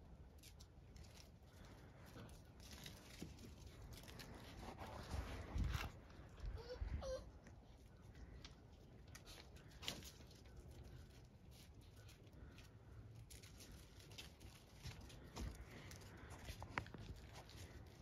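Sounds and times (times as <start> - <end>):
puppy paws on gravel and snow: 0.4 - 6.6, 7.6 - 18.0.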